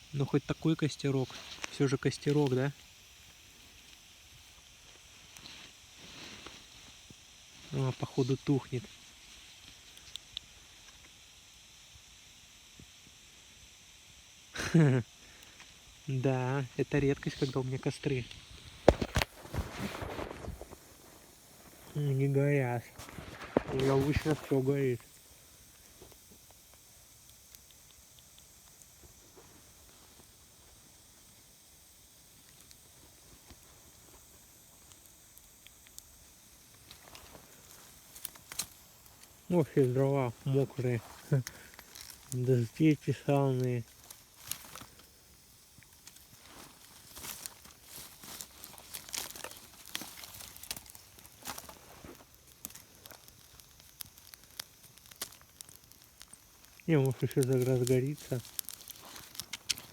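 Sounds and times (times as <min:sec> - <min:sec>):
sharp snaps and pops: 0:00.0 - 0:11.4, 0:16.9 - 0:59.9
campfire crackles: 0:00.0 - 0:59.9.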